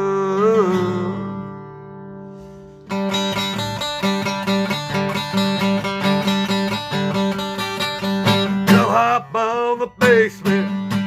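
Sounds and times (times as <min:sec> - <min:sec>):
plucked guitar pattern: 0:00.0 - 0:11.0.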